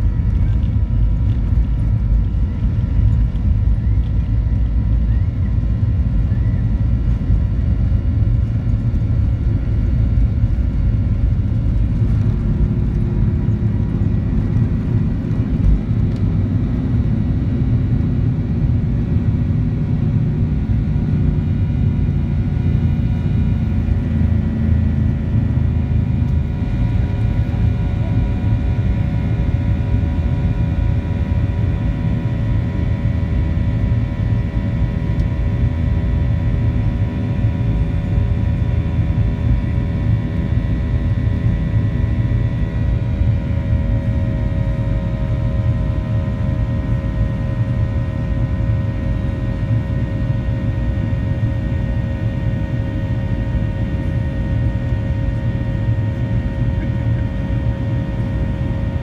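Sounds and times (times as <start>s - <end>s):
deep jet engine rumble: 0.0s - 59.0s
whining fan tones: 0.0s - 59.0s.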